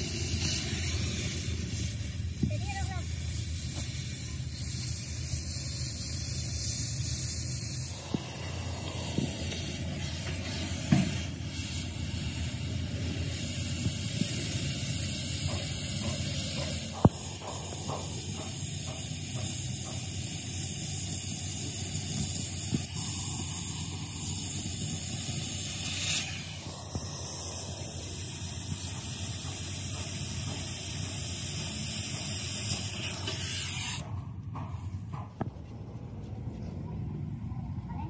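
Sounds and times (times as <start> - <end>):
cutting torch hissing: 0.0 - 34.1.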